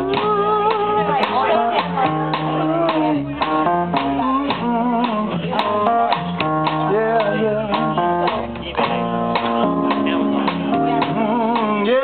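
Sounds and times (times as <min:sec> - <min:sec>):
person singing: 0:00.0 - 0:08.6, 0:09.6 - 0:12.0
drums: 0:00.0 - 0:12.0
guitar: 0:00.0 - 0:12.0.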